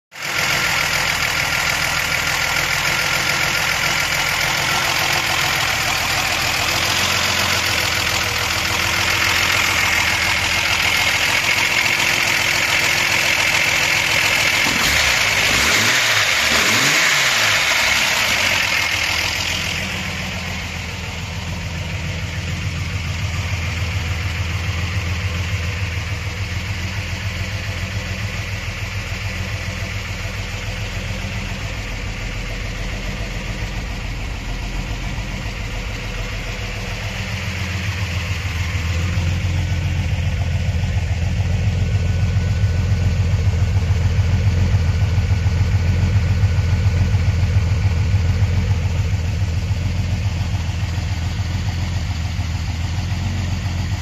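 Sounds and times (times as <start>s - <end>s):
car engine idling: 0.1s - 54.0s.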